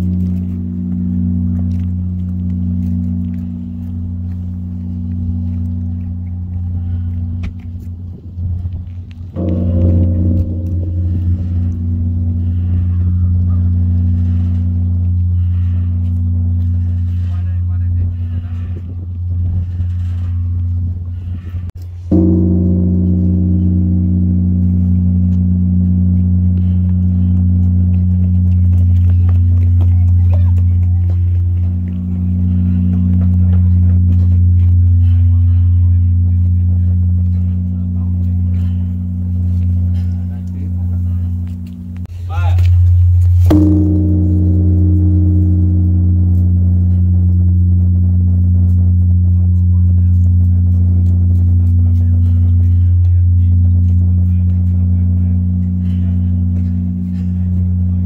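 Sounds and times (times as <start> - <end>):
temple bell ringing: 0.0 - 7.6, 9.3 - 18.4, 22.0 - 58.0.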